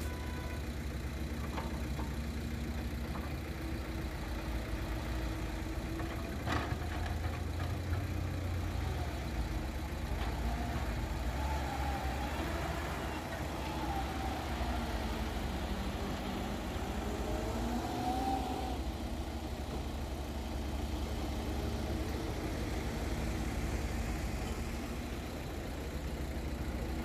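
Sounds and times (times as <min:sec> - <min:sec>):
diesel truck engine rumbling: 0:00.0 - 0:27.0.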